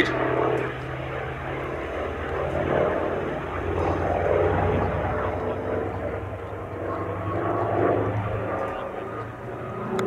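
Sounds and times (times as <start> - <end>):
aircraft radial engine droning: 0.0 - 10.0
propeller noise: 0.0 - 10.0.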